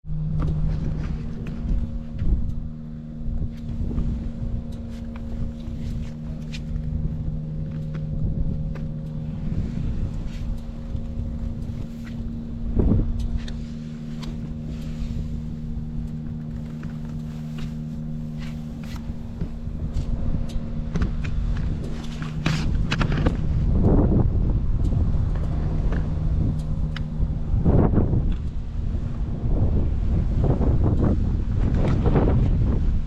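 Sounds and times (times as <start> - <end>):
motorcycle engine idling: 0.4 - 29.6.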